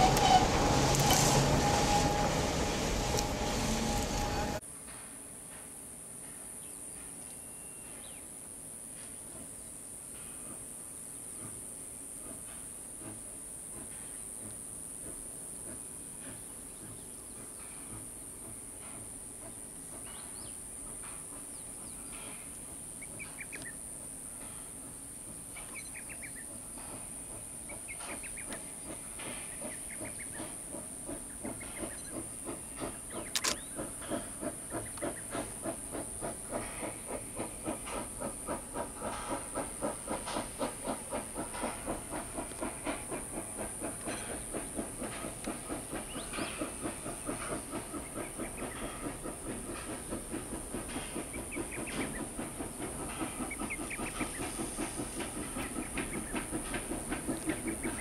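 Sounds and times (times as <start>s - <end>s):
steam hissing: 0.0s - 4.6s, 8.0s - 58.0s
steam locomotive chuffing: 0.0s - 58.0s.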